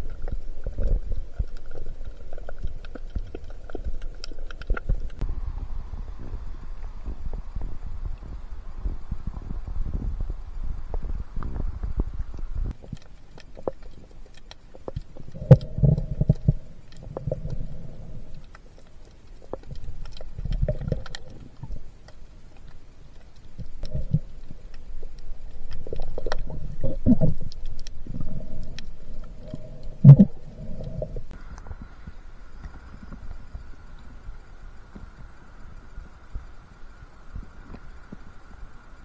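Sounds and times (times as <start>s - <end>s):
small underwater clicks: 0.0s - 5.2s, 10.8s - 39.0s
faint steady hum: 0.0s - 39.0s
underwater water surges: 0.0s - 39.0s.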